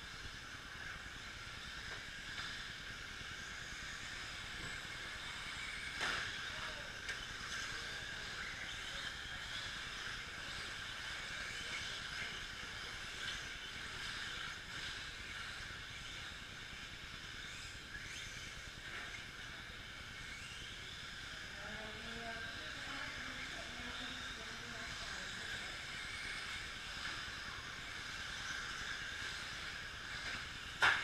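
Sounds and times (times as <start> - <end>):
electric motor whines: 0.0 - 31.0.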